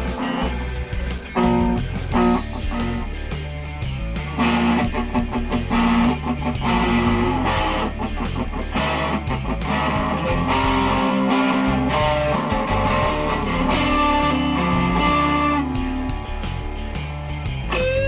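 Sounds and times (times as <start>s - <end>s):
bass line: 0.0s - 18.0s
guitar-led music: 0.0s - 18.0s
steady percussion: 0.0s - 18.0s.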